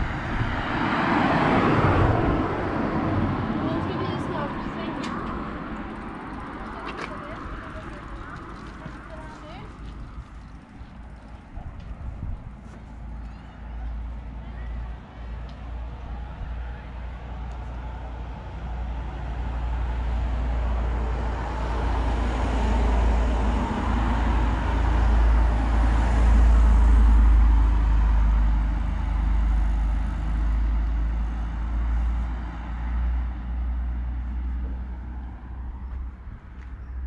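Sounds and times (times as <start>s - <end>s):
vehicle passing on street: 0.0s - 37.0s.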